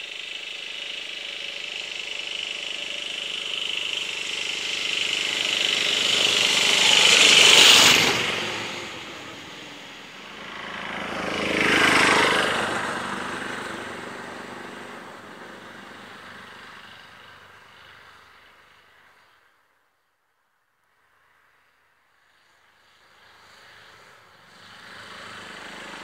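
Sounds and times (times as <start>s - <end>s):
motor scooter riding past: 0.0s - 19.6s, 21.6s - 26.0s.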